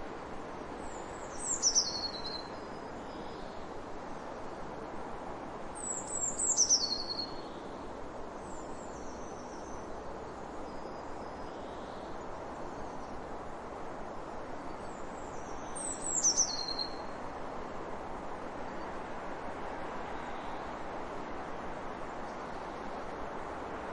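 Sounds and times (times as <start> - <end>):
steady background hiss: 0.0 - 23.9.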